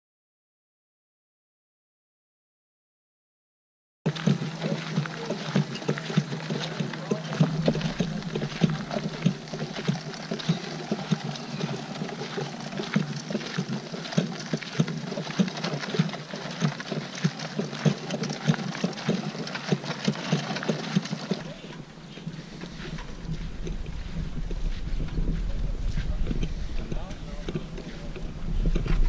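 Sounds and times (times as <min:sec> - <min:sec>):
cart rattling over gravel: 0:04.1 - 0:29.0
footsteps crunching: 0:04.1 - 0:29.0.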